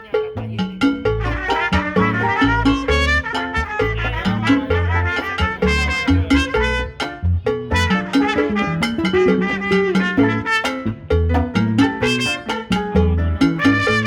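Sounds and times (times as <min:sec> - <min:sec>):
punchy repeating bass line: 0:00.0 - 0:14.0
brass section: 0:01.2 - 0:11.2, 0:12.0 - 0:13.0, 0:13.6 - 0:14.0
trumpet: 0:01.2 - 0:14.0.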